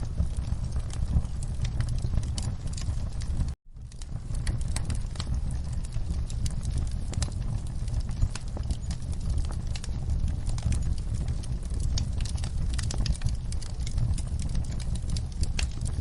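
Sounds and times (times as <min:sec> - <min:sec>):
fire pops and snaps: 0:00.0 - 0:16.0
low rumble of flames: 0:00.0 - 0:16.0.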